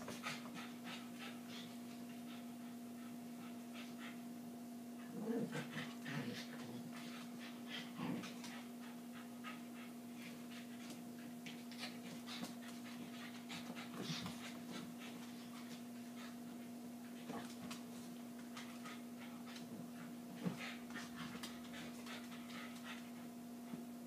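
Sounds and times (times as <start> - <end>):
dogs panting and scuffling: 0.0 - 4.3, 5.0 - 24.0
steady low hum: 0.0 - 24.0.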